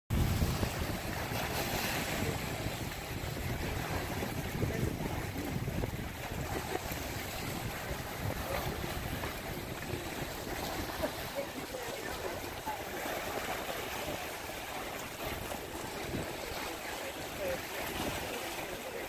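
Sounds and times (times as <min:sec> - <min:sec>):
wind buffeting microphone: 0:00.1 - 0:18.9
sea waves on rocks: 0:00.1 - 0:19.0.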